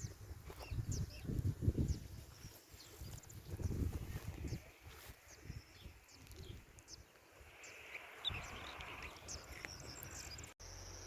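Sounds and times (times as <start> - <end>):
wind rumble on microphone: 0.0 - 10.5.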